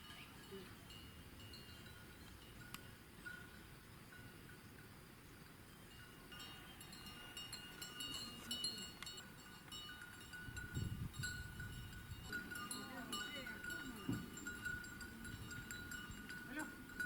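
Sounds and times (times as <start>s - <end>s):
livestock bells clinking: 0.0s - 17.0s.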